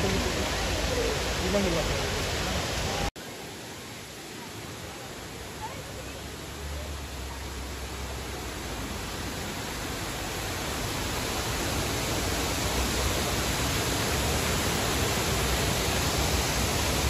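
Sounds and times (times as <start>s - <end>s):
water rushing down cascade: 0.0s - 17.0s.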